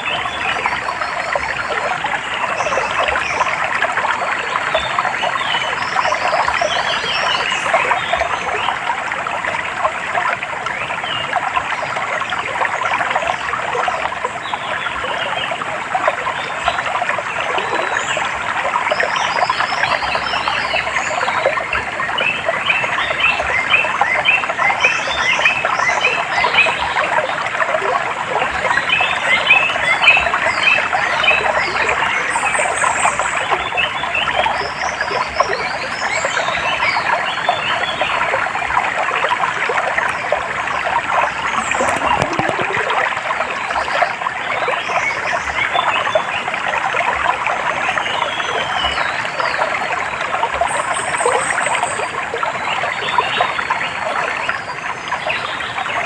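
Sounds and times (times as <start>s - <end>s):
water babbling over stones: 0.0s - 56.0s.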